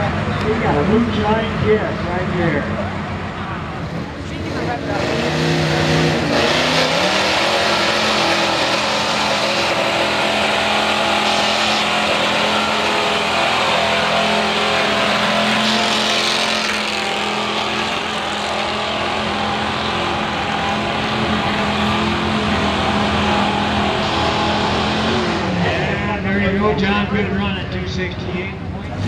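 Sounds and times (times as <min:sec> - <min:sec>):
truck engine at full throttle: 0:00.0 - 0:29.0.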